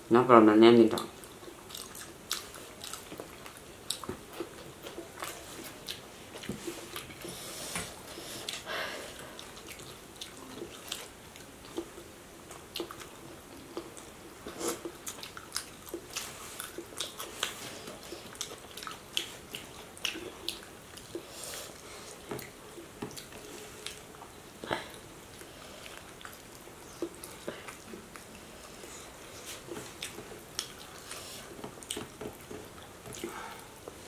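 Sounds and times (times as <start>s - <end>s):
lip smacks and chewing: 0.9s - 7.3s, 9.3s - 28.8s, 29.4s - 34.0s.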